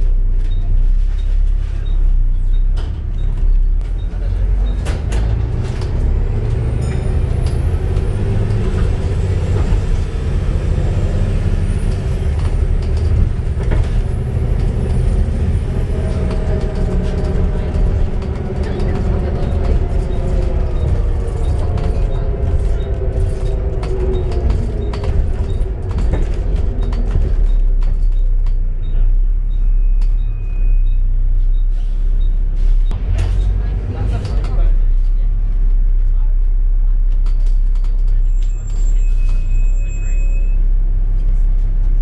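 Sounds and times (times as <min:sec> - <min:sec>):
bus engine and drivetrain whine: 0:00.0 - 0:42.0.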